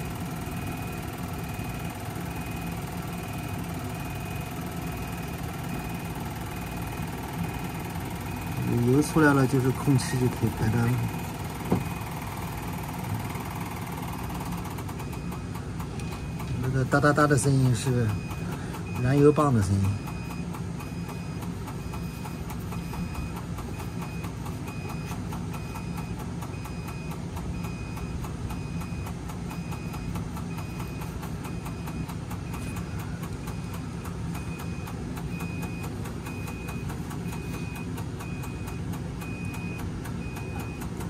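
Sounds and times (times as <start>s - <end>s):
fuel pump ticking rapidly: 0.0s - 41.0s.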